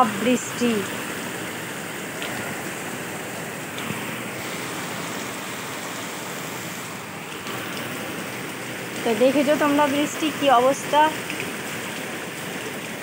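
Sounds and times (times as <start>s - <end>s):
floodwater rushing into drain: 0.0s - 13.0s
heavy rain pouring: 0.0s - 13.0s.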